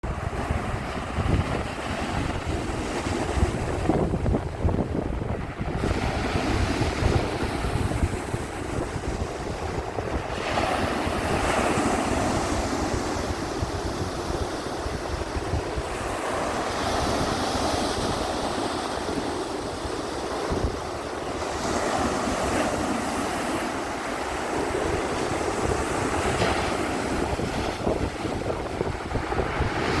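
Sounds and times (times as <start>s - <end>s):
waves surging: 0.0s - 30.0s
wind buffeting microphone: 0.0s - 30.0s.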